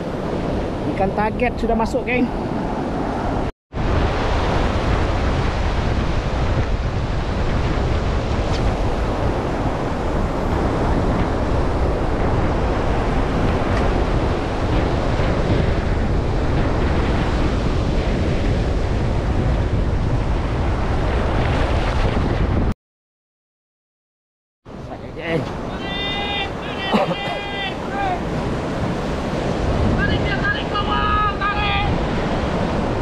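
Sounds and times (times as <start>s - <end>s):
surf washing in: 0.0s - 22.7s, 24.7s - 33.0s
wind buffeting microphone: 0.0s - 22.7s, 24.7s - 33.0s.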